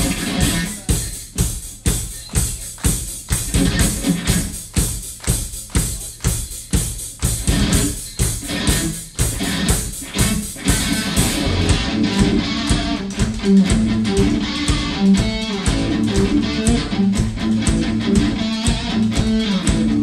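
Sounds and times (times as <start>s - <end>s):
rock drum kit beat: 0.0s - 20.0s.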